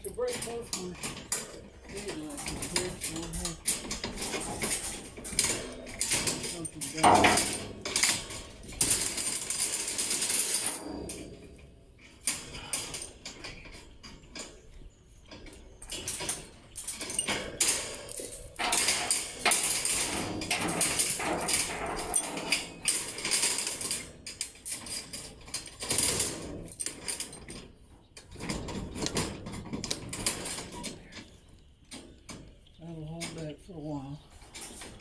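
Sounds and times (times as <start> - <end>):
metal clanking and rattling: 0.0 - 33.5, 34.3 - 35.0.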